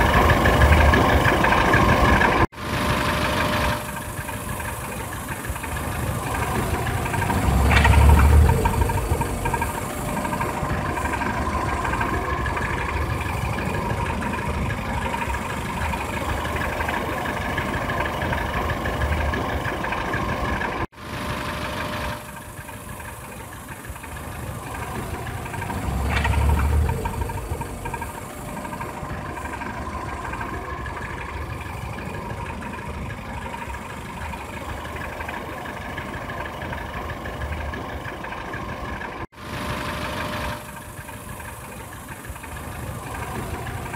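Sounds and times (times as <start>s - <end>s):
petrol engine idling: 0.0s - 43.9s.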